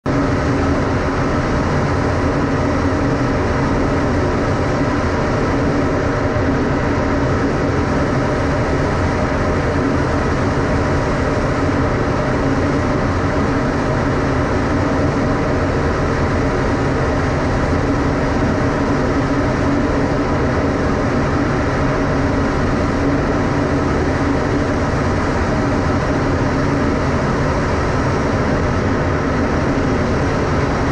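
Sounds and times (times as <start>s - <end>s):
jet cockpit engine drone: 0.0s - 30.9s.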